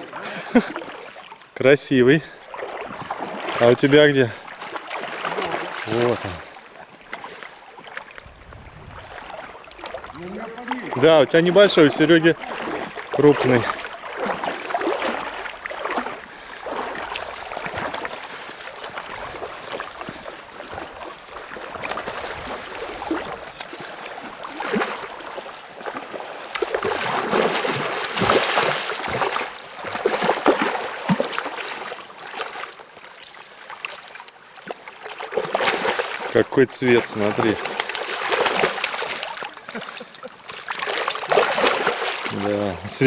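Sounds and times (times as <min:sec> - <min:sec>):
running water gurgling: 0:00.0 - 0:43.0
fish thrashing and splashing: 0:02.5 - 0:03.8, 0:04.4 - 0:08.3, 0:11.8 - 0:43.0.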